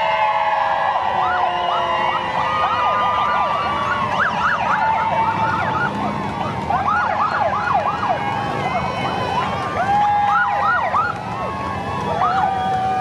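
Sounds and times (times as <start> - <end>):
police sirens yelping and wailing: 0.0 - 13.0
motorcycles passing: 0.1 - 13.0.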